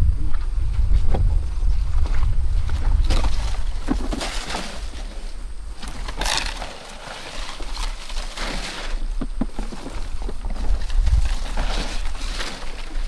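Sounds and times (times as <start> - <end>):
wind rumble on microphone: 0.0 - 6.7, 8.9 - 13.0
leaves and brush rustling: 0.3 - 13.0.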